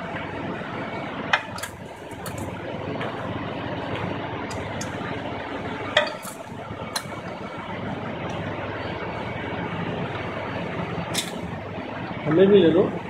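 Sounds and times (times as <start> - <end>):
diesel generator engine running: 0.0 - 13.0.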